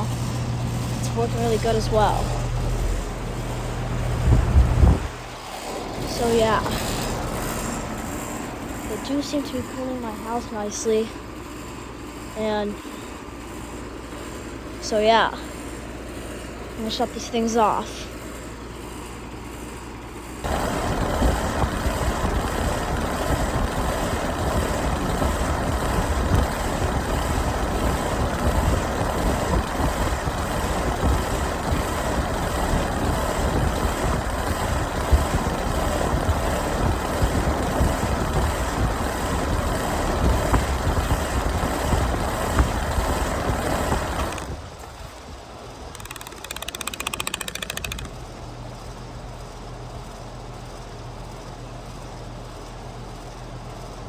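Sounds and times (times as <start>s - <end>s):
air conditioner unit running: 0.0s - 54.0s.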